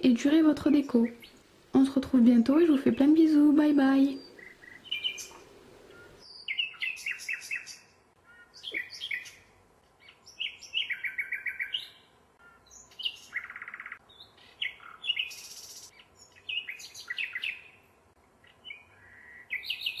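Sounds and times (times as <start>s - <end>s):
birds chirping and trilling: 0.2s - 20.0s.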